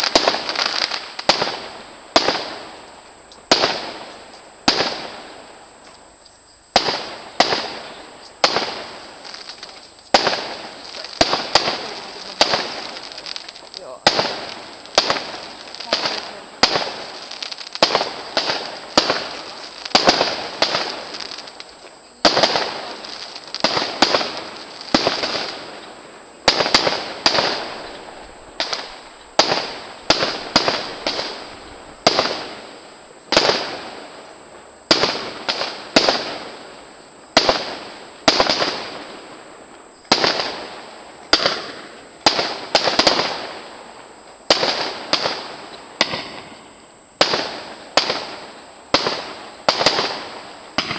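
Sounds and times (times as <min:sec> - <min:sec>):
fireworks bursting in sharp bangs: 0:00.0 - 0:50.9.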